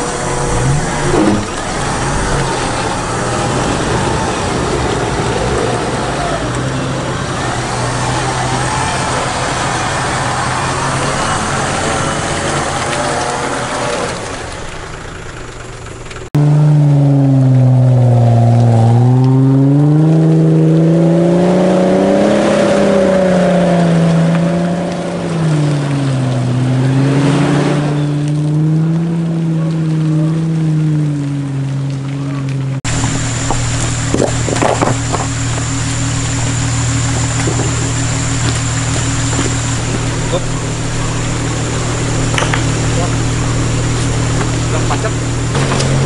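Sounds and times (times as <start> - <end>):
engine labouring through mud: 0.0 - 46.0.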